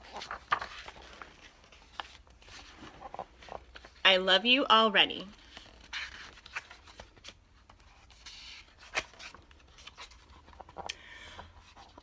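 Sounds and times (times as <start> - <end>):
book pages turning: 0.0 - 4.0, 5.3 - 12.0.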